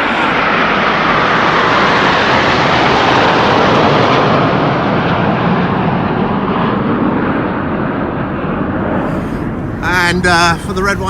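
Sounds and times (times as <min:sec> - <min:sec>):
jet roar passing overhead: 0:00.0 - 0:11.0.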